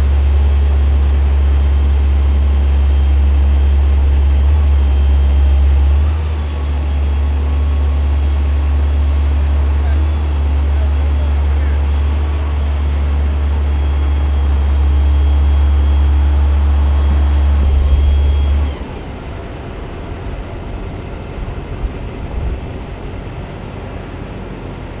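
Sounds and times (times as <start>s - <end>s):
crane engine droning: 0.0s - 25.0s.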